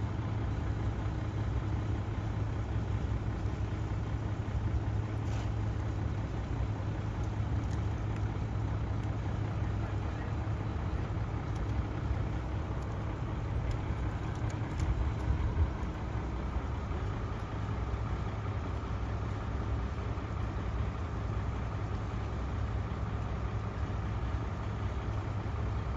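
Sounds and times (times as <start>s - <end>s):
vehicle engines idling: 0.0s - 25.9s.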